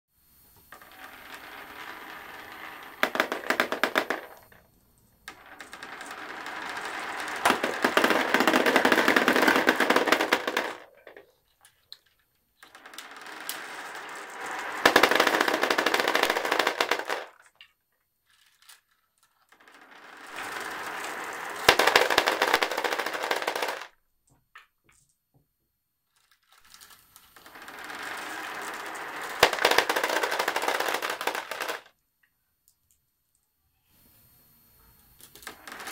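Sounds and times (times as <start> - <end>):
marbles clattering into plastic: 0.6 - 4.7, 5.3 - 24.0, 26.1 - 32.0, 35.2 - 35.9
marbles rolling down track: 0.6 - 24.0, 26.1 - 32.0, 35.2 - 35.9.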